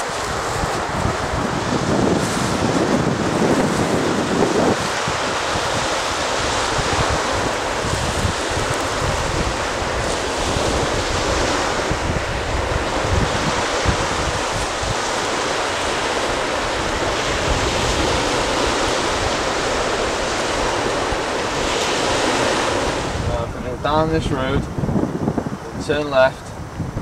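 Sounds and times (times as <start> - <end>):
wind on microphone: 0.0 - 27.0.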